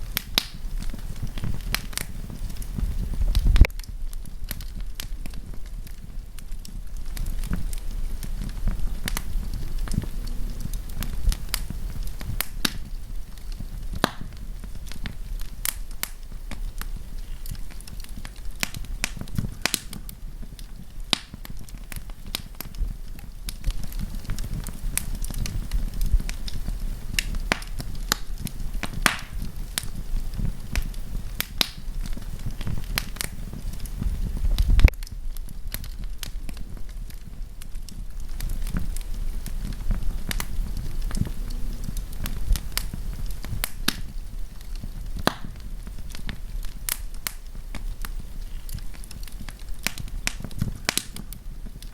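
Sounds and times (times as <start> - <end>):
low rumble of flame: 0.0 - 51.9
wood fire pops and crackles: 0.0 - 51.9.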